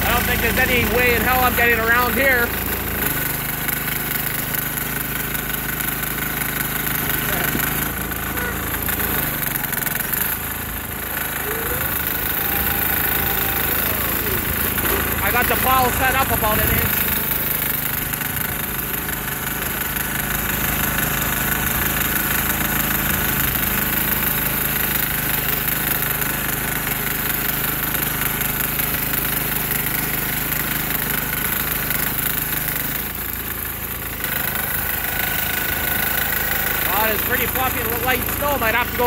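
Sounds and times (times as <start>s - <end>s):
plow blade pushing snow: 0.0s - 39.0s
small diesel engine clattering: 0.0s - 39.0s.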